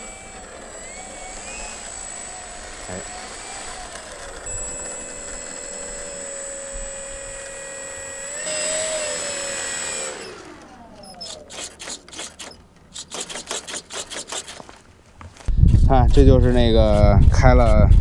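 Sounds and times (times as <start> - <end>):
electric motor and propeller whirring: 0.0 - 18.0.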